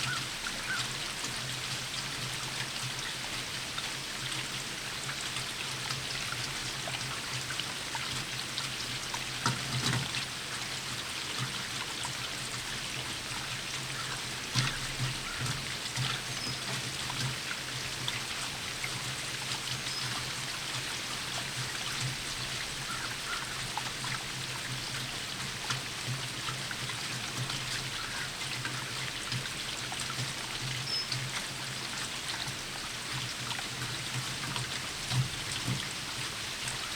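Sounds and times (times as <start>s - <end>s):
steady rain falling: 0.0s - 36.9s
runoff trickling: 0.1s - 36.9s.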